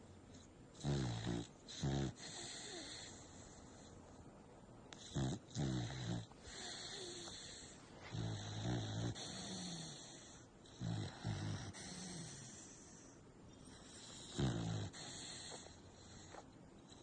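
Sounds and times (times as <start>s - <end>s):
dog breathing quietly: 0.0s - 4.3s, 4.9s - 17.0s
dog snoring loudly: 0.7s - 3.9s, 5.0s - 17.0s.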